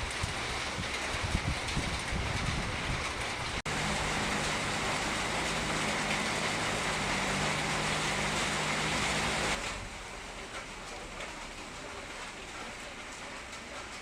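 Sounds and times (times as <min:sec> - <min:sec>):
paving machinery engine humming: 0:00.0 - 0:14.0
rain hissing: 0:00.0 - 0:14.0.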